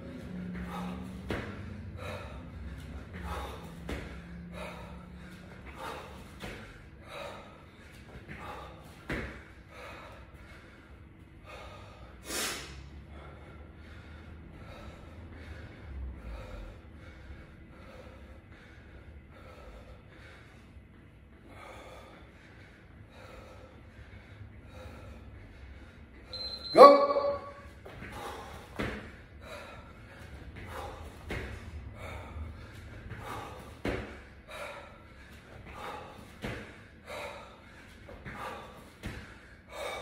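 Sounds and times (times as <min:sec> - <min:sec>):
man breathing hard: 0:00.0 - 0:26.6, 0:27.4 - 0:40.0.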